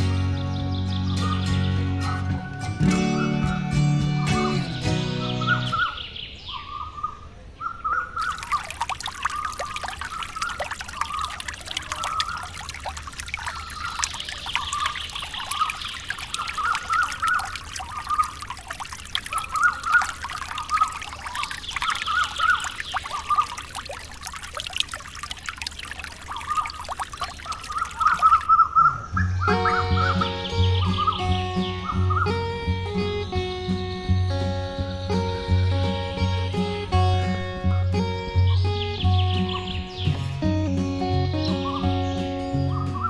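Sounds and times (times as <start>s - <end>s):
water pouring and trickling: 8.2s - 43.0s.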